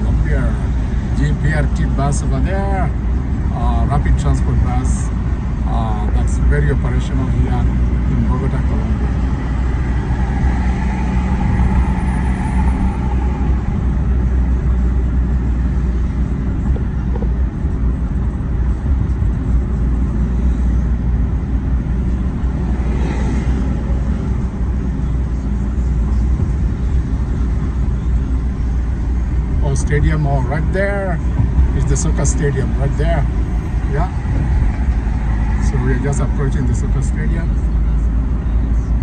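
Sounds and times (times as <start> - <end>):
car engine and tyre road noise: 0.0 - 39.0.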